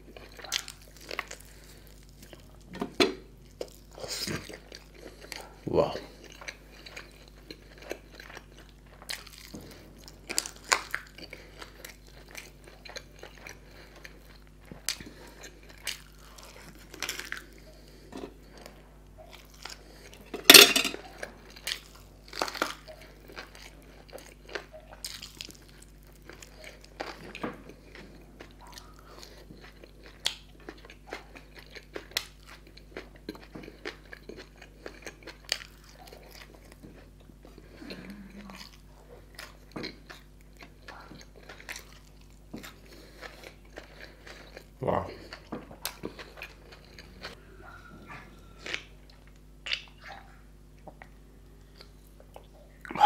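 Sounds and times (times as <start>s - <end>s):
chewing and wet mouth sounds: 0.0s - 20.4s, 21.0s - 53.0s.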